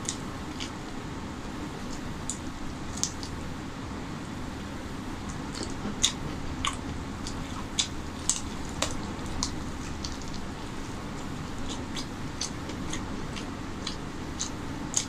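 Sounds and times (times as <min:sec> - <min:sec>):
man chewing: 0:00.0 - 0:01.0, 0:01.7 - 0:03.4, 0:05.2 - 0:15.0.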